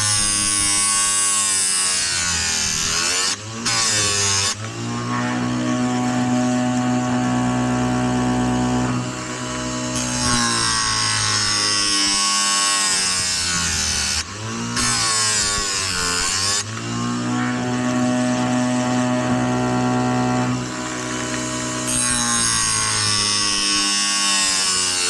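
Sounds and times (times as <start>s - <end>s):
chain sharpener grinding: 0.0s - 25.0s
electric motor hum: 0.0s - 25.0s.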